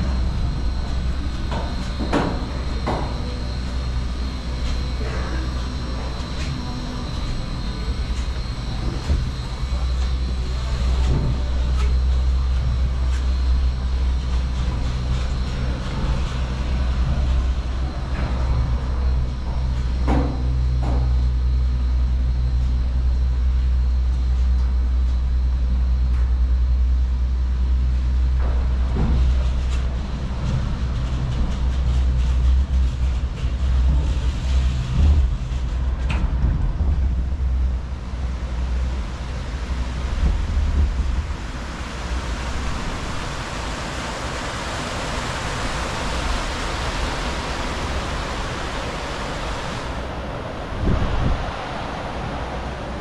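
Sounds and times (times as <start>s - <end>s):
chairlift low rumble: 0.0s - 53.0s
faint hum: 0.0s - 53.0s.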